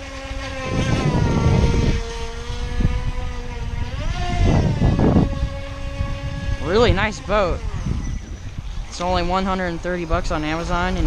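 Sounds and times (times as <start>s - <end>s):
electric motor whining: 0.0s - 11.0s
wind rumble on microphone: 0.0s - 11.0s.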